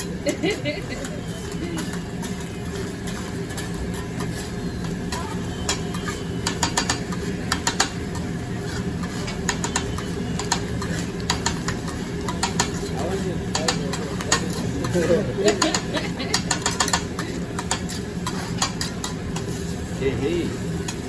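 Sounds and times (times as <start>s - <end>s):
metal spatulas scraping on griddle: 0.0s - 21.0s.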